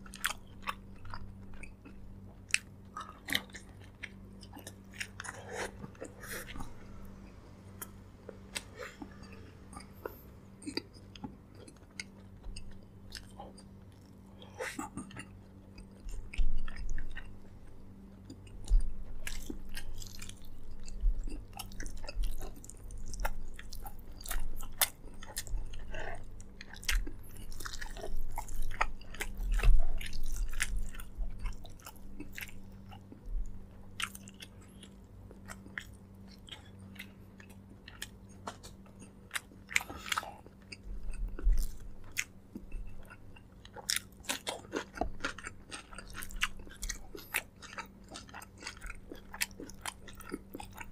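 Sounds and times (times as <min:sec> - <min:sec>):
chewing with mouth clicks: 0:00.0 - 0:07.2, 0:07.8 - 0:50.9
faint low hum: 0:00.0 - 0:50.9.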